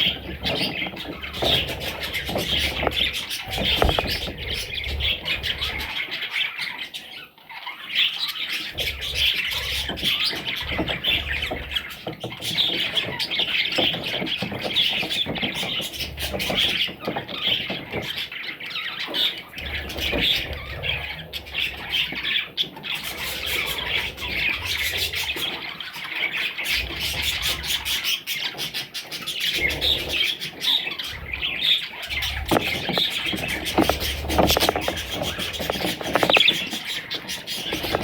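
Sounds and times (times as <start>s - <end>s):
budgerigars chirping: 0.0s - 38.0s.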